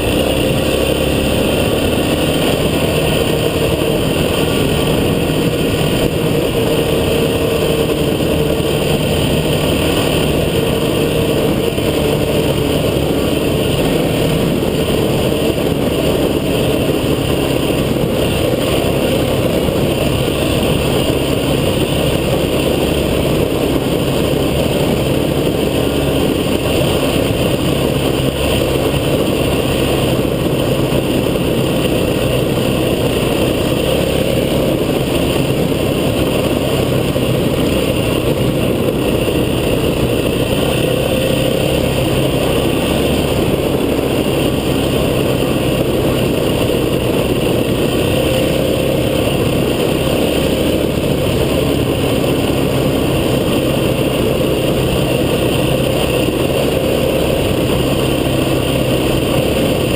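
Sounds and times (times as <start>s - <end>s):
constant rushing noise: 0.0s - 59.9s
vehicle engine running: 0.0s - 59.9s.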